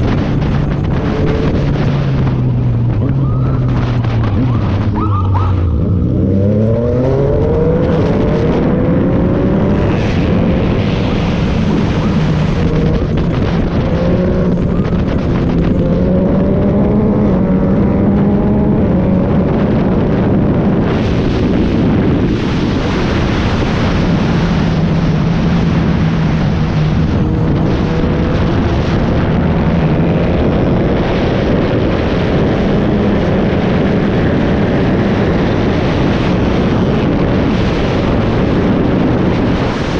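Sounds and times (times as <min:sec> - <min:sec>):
motorcycle engine accelerating: 0:00.0 - 0:39.9
wind on the microphone: 0:00.0 - 0:39.9.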